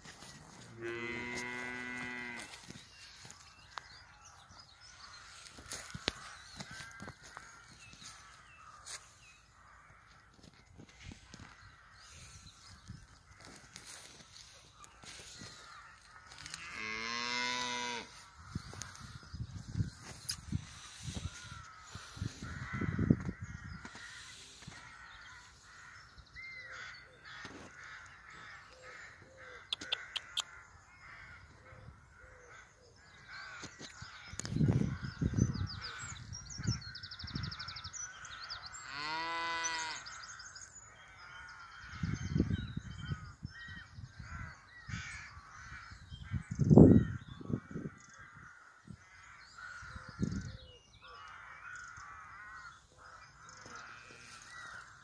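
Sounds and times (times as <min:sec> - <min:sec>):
birds cawing: 0:00.0 - 0:55.0.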